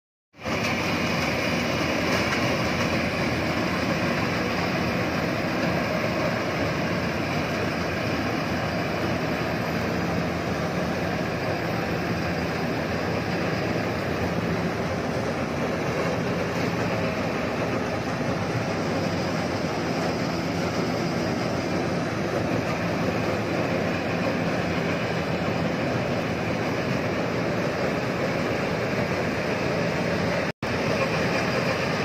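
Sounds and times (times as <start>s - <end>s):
combine harvester running: 0.4s - 32.0s.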